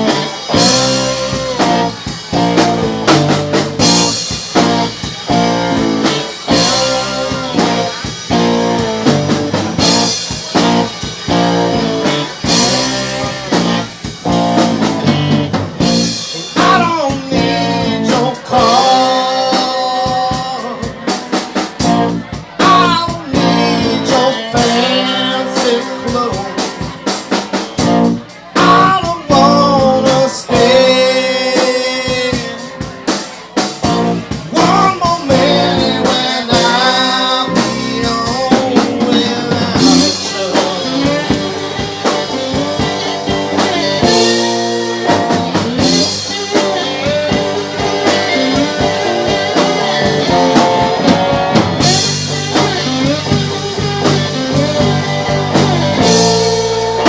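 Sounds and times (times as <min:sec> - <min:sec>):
band playing blues-rock: 0:00.0 - 0:57.0
drum kit: 0:00.0 - 0:57.0
guitar: 0:00.0 - 0:57.0
person singing: 0:00.0 - 0:57.0.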